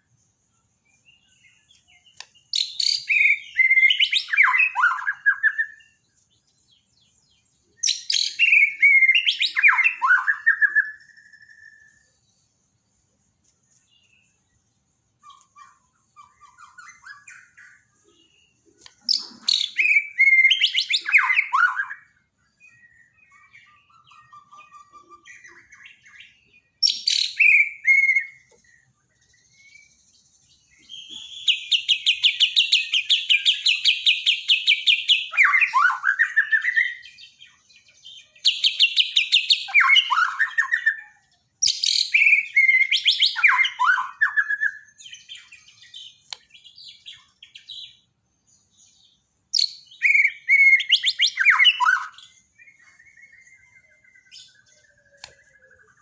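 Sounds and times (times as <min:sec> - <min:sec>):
bird singing whistles and chatter: 0:00.9 - 0:06.8, 0:07.7 - 0:12.2, 0:15.2 - 0:56.0.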